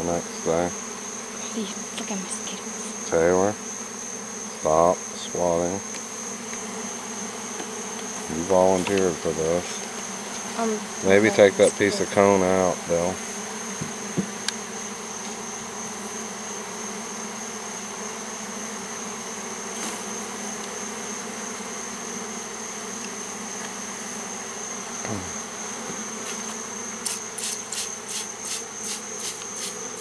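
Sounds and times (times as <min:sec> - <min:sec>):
bees buzzing around hive: 0:00.0 - 0:30.0
single bee buzzing past: 0:00.0 - 0:30.0
high-pitched insect trill: 0:00.1 - 0:30.0.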